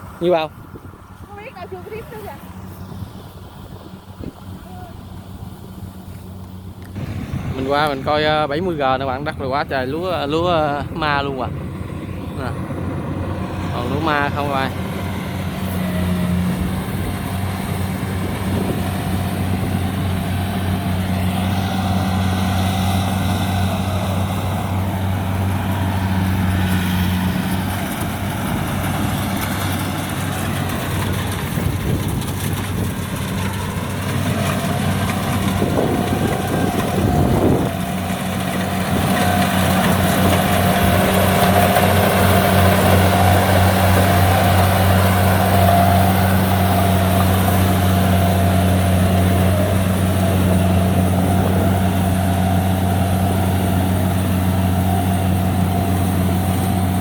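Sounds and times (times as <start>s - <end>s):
harvester engine drone: 0.0s - 57.0s.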